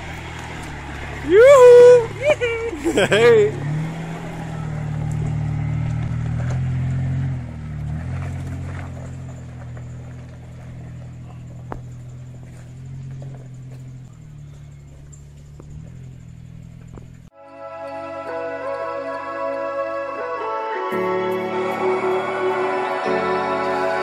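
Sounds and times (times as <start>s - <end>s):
car engine pulling away: 0.0s - 24.0s.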